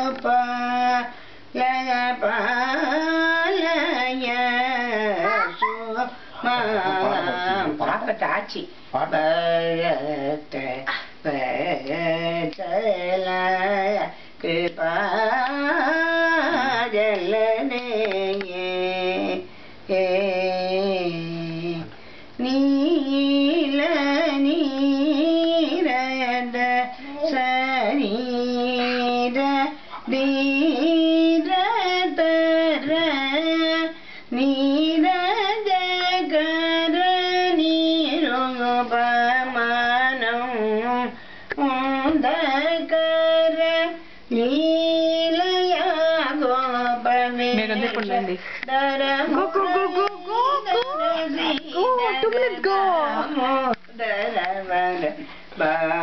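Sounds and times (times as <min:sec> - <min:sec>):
woman singing: 0:00.0 - 0:08.0, 0:09.0 - 0:56.0.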